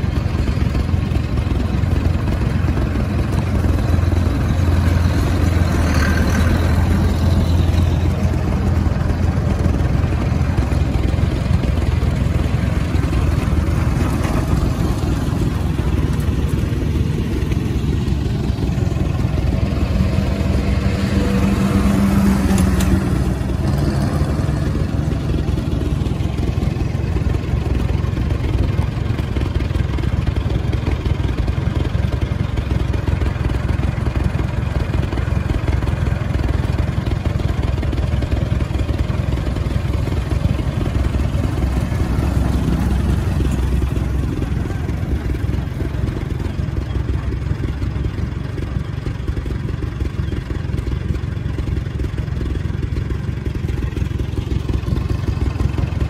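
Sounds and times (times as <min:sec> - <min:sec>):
tractor engines rumbling: 0:00.0 - 0:56.0.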